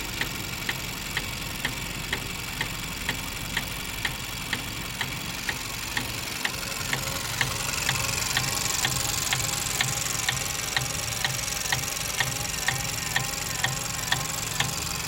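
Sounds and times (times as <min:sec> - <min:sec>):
rhythmic engine ticking: 0:00.0 - 0:15.0
car engine hum: 0:01.5 - 0:15.0.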